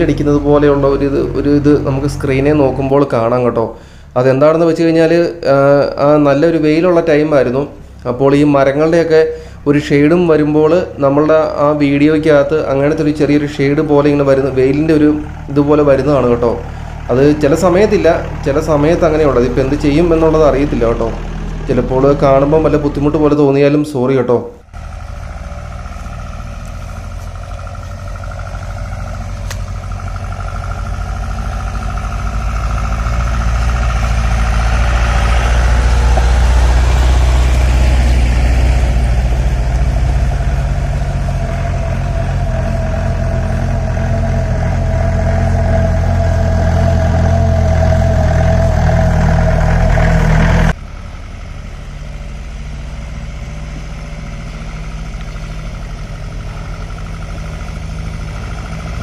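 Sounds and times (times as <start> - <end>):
jeep engine under load: 0.0 - 59.0.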